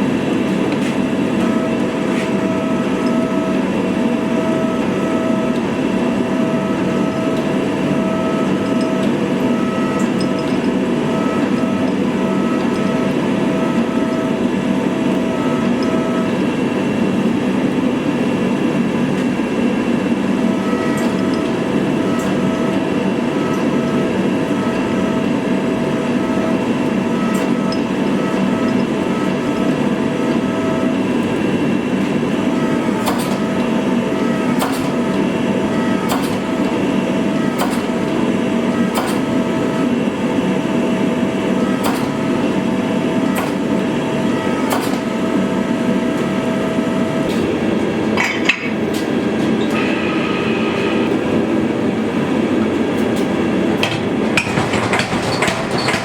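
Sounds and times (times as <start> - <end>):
forge fire and blower roaring: 0.0 - 56.0.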